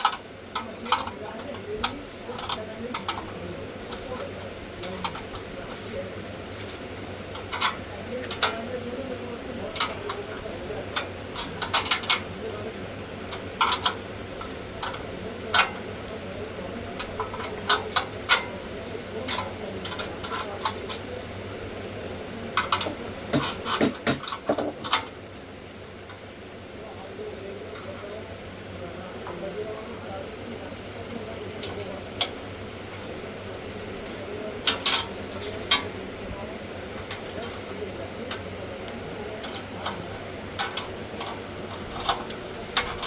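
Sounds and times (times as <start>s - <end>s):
faint voices: 0.0s - 43.0s.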